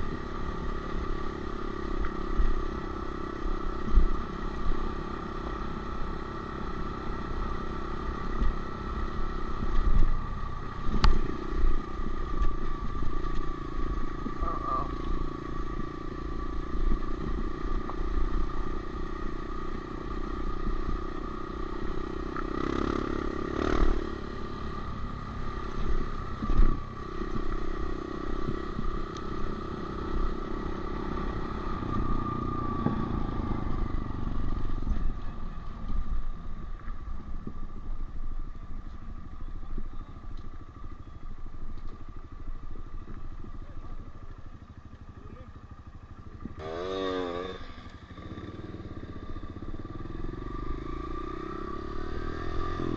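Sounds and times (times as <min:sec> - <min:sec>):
dirt bike engine running: 0:00.0 - 0:52.9.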